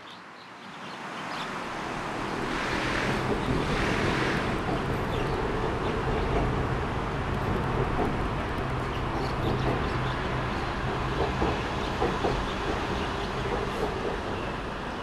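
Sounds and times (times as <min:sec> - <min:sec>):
road traffic noise: 0:00.2 - 0:15.0.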